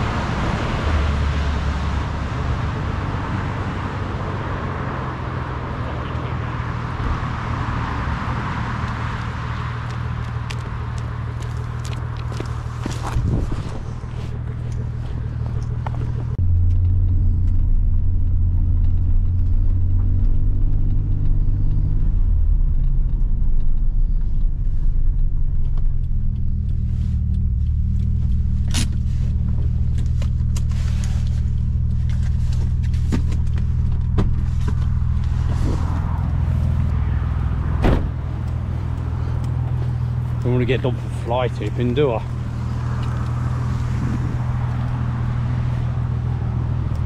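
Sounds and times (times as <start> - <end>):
car engine running inside cabin: 0.0 - 47.0.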